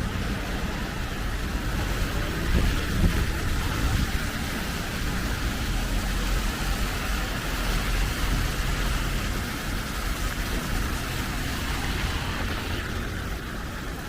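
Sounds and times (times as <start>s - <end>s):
heavy rain falling: 0.0s - 14.0s
wind rumble on microphone: 0.1s - 14.0s.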